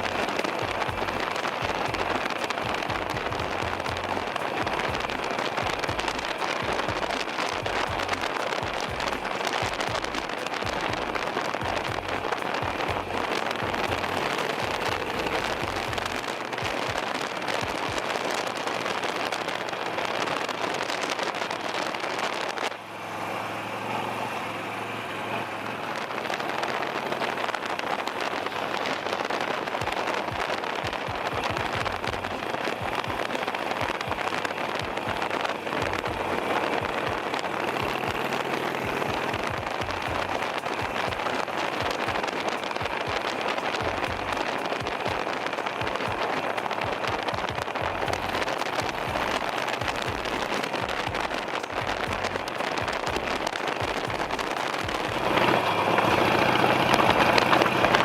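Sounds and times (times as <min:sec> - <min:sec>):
wind buffeting microphone: 0:00.0 - 0:22.8, 0:25.5 - 0:58.0
motorcycle engine running: 0:00.0 - 0:58.0.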